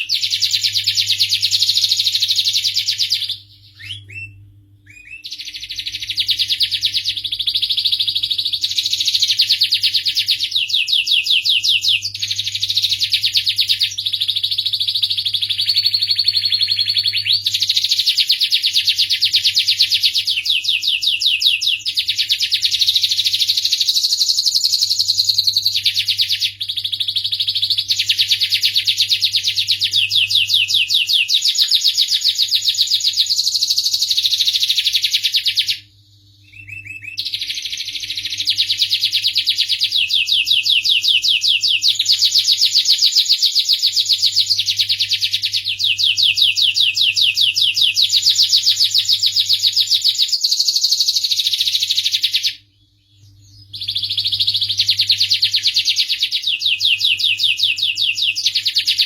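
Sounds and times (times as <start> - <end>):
canary singing trills and chirps: 0.0 - 59.0.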